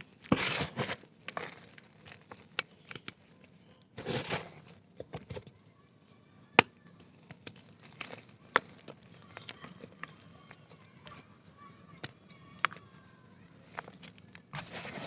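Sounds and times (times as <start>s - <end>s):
dirt crunching and crumbling: 0.0s - 3.4s, 4.0s - 5.5s, 6.6s - 15.0s.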